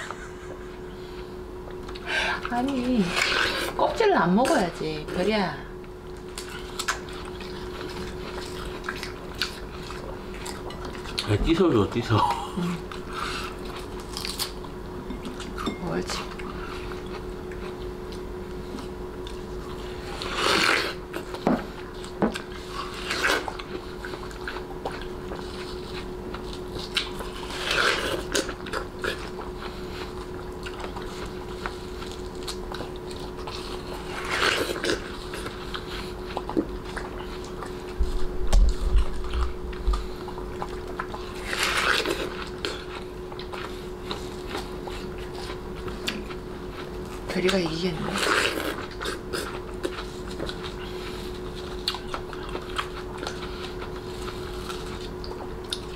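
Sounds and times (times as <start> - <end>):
steady hum: 0.0 - 55.9
dog chewing watermelon: 6.2 - 55.9.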